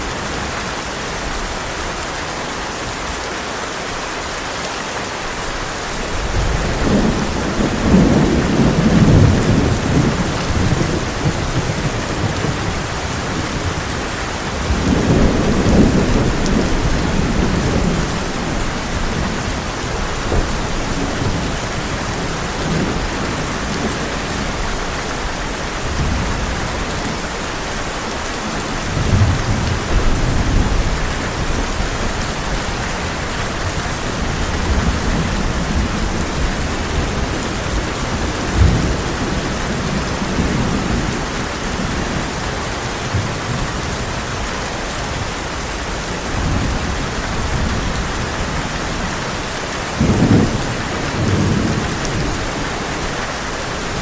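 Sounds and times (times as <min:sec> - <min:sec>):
heavy rain on a tin roof: 0:00.0 - 0:54.0
thunder rumbling: 0:06.1 - 0:42.5, 0:45.1 - 0:54.0.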